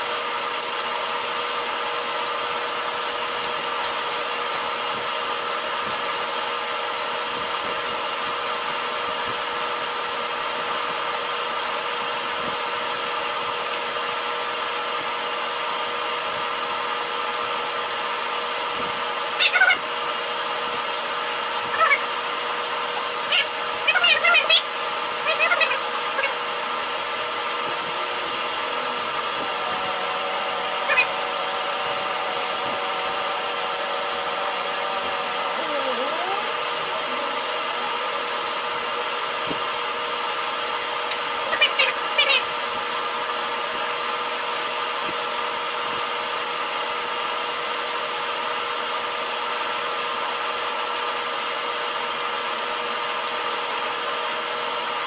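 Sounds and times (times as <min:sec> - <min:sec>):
steady motor hum: 0:00.0 - 0:55.0.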